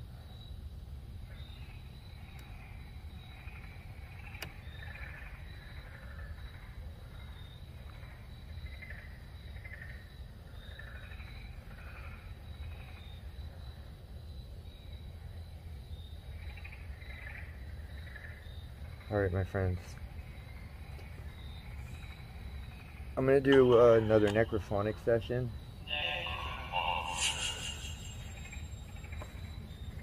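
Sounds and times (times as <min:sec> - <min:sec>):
insect chirps: 0:00.0 - 0:30.0
insects trilling: 0:00.0 - 0:30.0.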